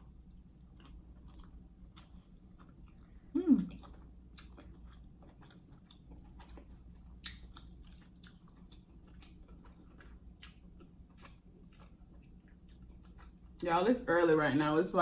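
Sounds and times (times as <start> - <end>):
chewing food: 0.0 - 13.6.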